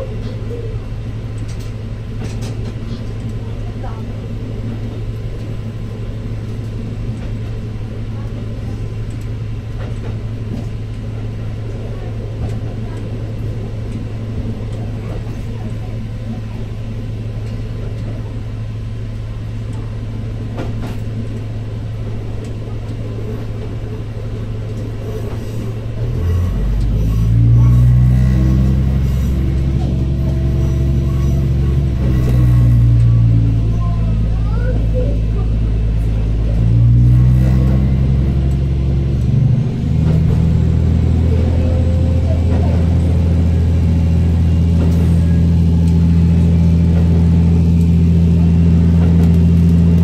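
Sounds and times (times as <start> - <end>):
diesel railcar engine drone: 0.0 - 50.0.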